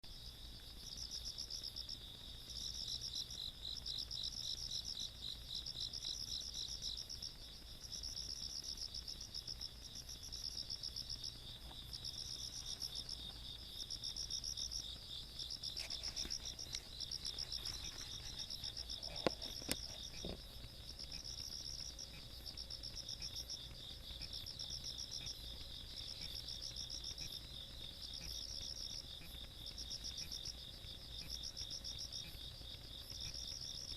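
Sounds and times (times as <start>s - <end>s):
insect pulsed chirping: 0.1s - 33.9s
insect trill: 0.1s - 33.9s.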